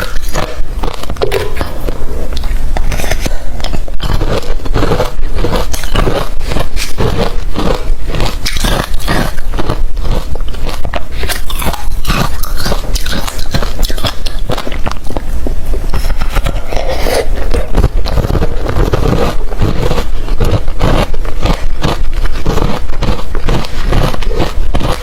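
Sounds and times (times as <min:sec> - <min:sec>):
chewing crunchy ice: 0:00.0 - 0:25.0.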